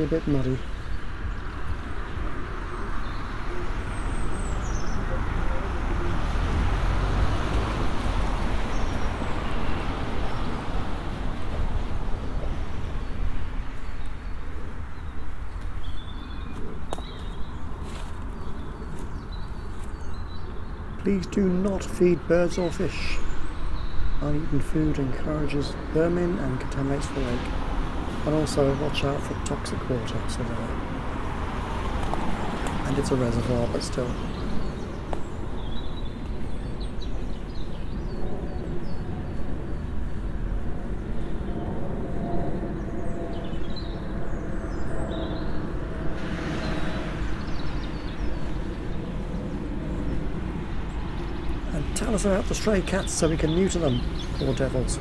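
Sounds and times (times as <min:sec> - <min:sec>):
small birds chirping: 0:00.0 - 0:11.1, 0:11.8 - 0:40.6, 0:41.3 - 0:55.0.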